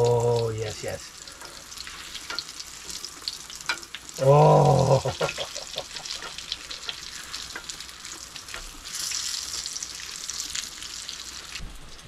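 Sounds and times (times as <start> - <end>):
fish cakes sizzling in a skillet: 0.0 - 4.2, 4.8 - 12.0.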